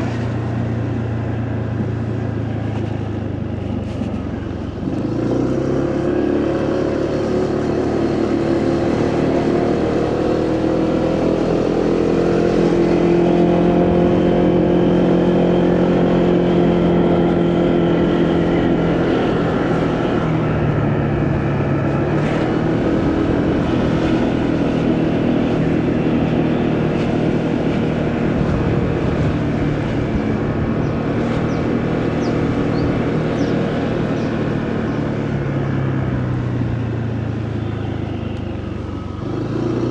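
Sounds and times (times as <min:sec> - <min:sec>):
motorcycle engine running: 0:00.0 - 0:39.9
wind and tyre noise: 0:00.0 - 0:39.9.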